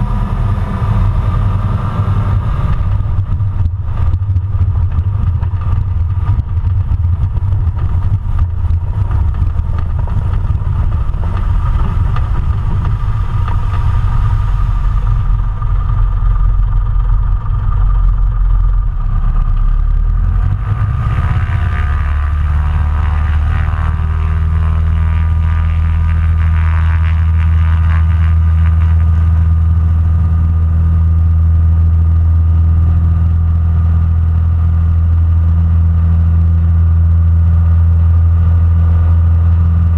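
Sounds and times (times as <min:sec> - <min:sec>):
floatplane engine droning: 0:00.0 - 0:39.9
wind on microphone: 0:00.0 - 0:39.9.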